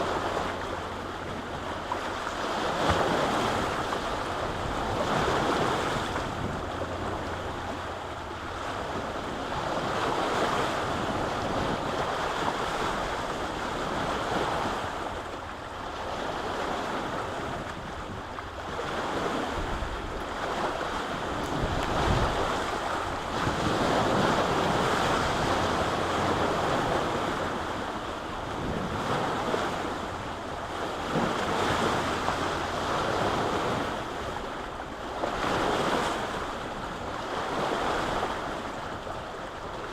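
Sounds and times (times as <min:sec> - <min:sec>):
wind gusting on microphone: 0:00.0 - 0:15.3, 0:16.0 - 0:39.9
waves washing against shore: 0:00.0 - 0:39.9.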